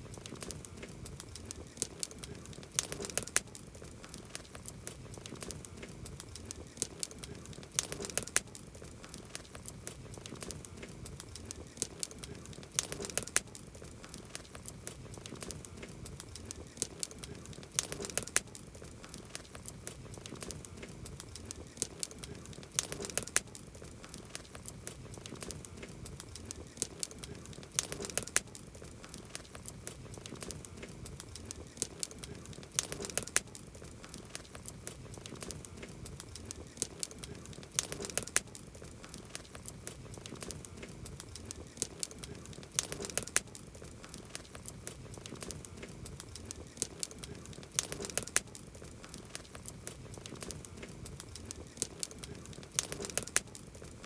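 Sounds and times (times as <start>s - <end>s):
campfire crackling and hissing: 0.0s - 54.0s
sharp pops and snaps: 0.0s - 54.0s.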